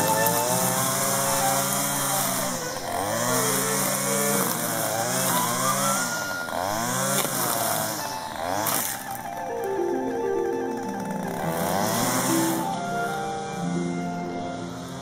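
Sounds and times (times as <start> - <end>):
string trimmer engine: 0.0 - 15.0.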